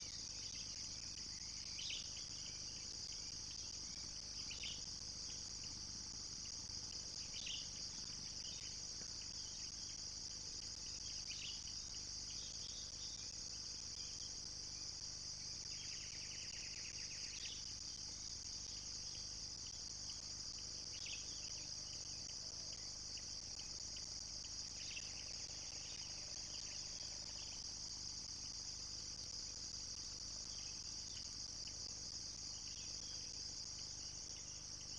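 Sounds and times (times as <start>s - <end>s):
insect chirping calls: 0.0s - 34.9s
insects chorus: 0.0s - 34.9s.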